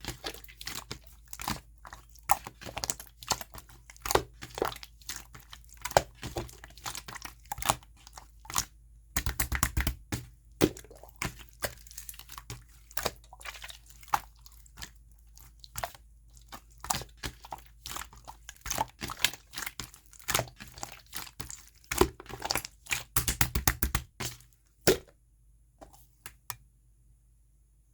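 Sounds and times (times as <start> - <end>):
slime squished by hand: 0.0 - 25.1.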